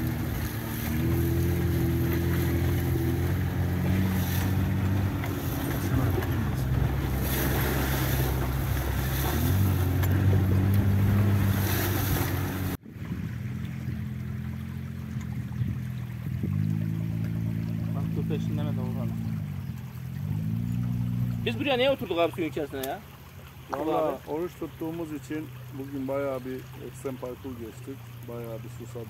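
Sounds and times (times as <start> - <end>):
vehicle engine running under load: 0.0 - 29.0.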